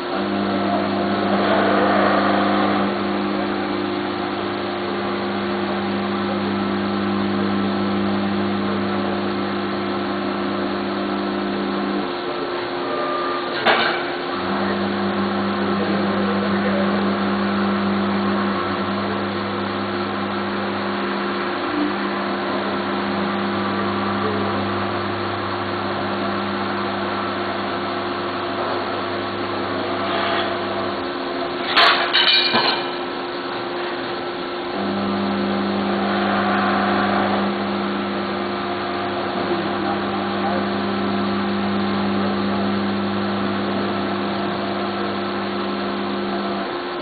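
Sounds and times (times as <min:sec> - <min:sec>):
milling machine hum: 0:00.0 - 0:47.0.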